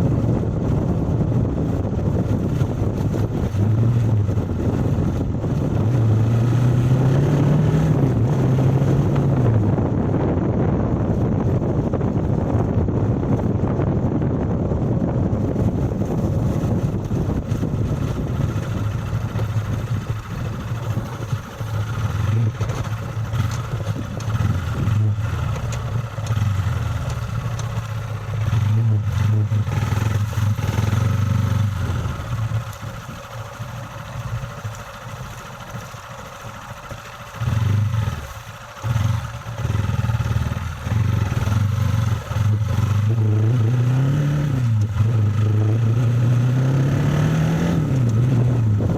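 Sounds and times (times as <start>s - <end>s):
vehicle engine revving off-road: 0.0s - 48.9s.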